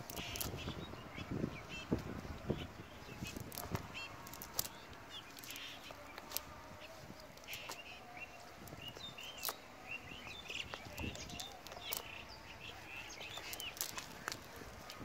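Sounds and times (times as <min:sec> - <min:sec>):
cast net clicks and rustles: 0:00.0 - 0:00.8, 0:02.0 - 0:15.0
birds chirping: 0:00.0 - 0:15.0.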